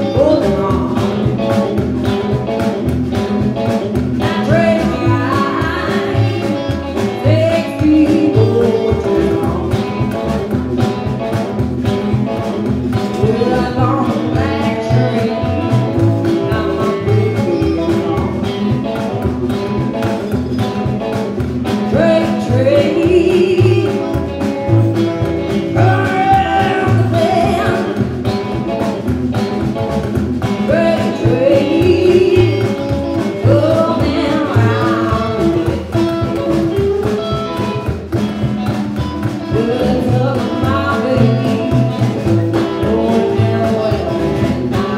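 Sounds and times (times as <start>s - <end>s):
woman singing: 0.0s - 2.6s, 3.6s - 12.4s, 13.0s - 20.0s, 21.7s - 29.0s, 30.5s - 44.9s
drum kit: 0.0s - 44.9s
electric guitar: 0.0s - 44.9s
upright double bass: 0.0s - 44.9s.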